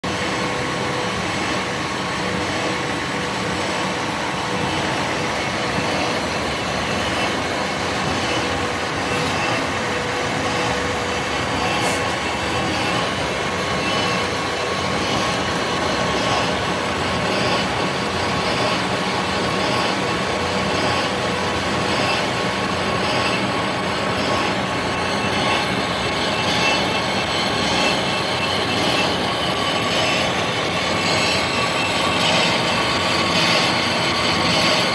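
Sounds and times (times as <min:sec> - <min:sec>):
metal lathe drone and whine: 0:00.0 - 0:34.9.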